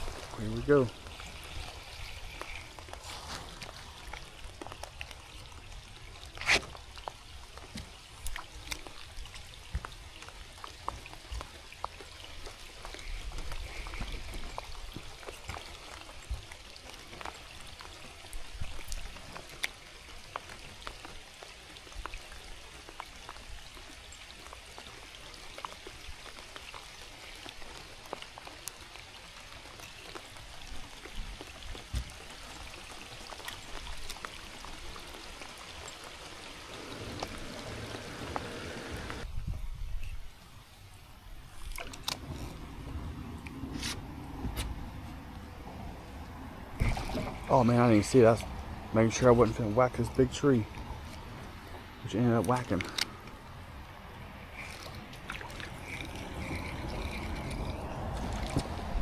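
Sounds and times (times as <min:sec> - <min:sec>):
rain falling: 0:00.0 - 0:39.3, 0:40.3 - 0:59.0
water trickling and dripping: 0:00.0 - 0:59.0.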